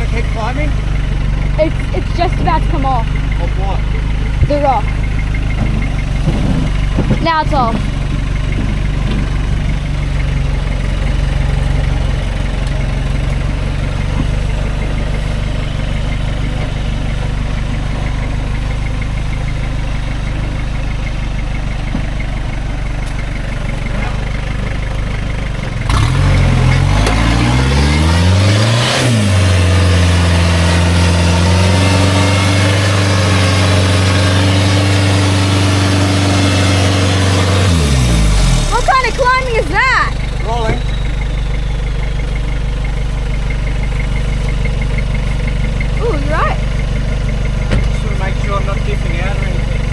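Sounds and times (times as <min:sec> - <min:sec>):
diesel engine revving: 0:00.0 - 0:49.9.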